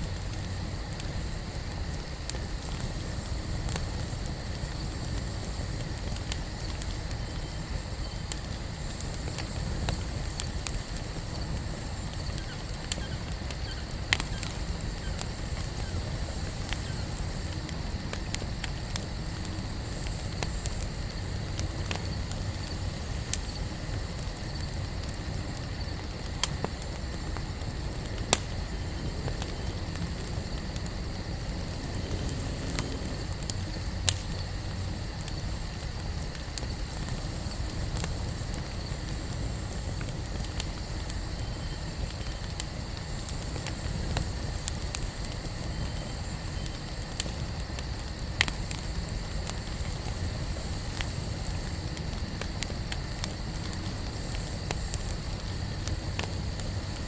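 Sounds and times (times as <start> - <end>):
campfire rumble: 0.0 - 57.0
fire crackling pops: 0.0 - 57.0.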